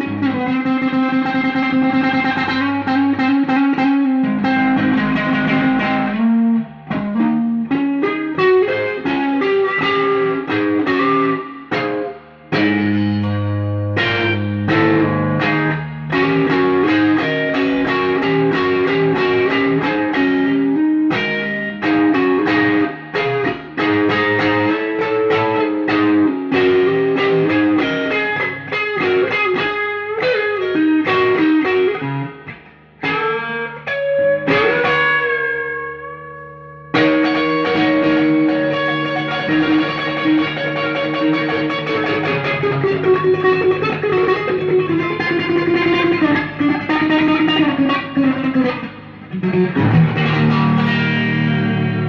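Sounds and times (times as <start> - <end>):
clean electric guitar with reverb: 0.0 - 52.0.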